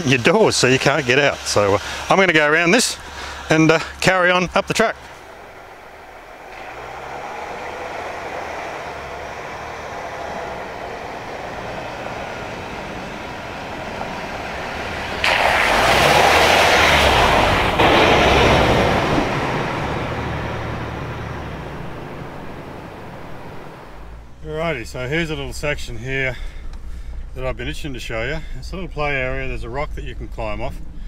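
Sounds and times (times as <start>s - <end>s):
car engine hum: 0.0s - 31.0s
tyre and road noise rush: 0.0s - 31.0s.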